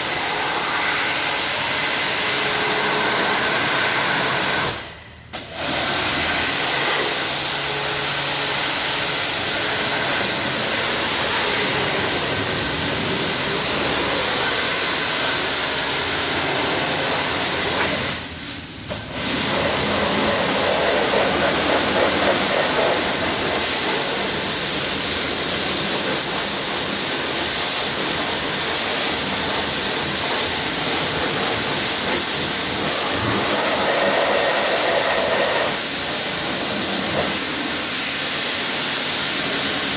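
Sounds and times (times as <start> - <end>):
pressure washer spraying water: 0.0 - 4.8, 5.4 - 39.9.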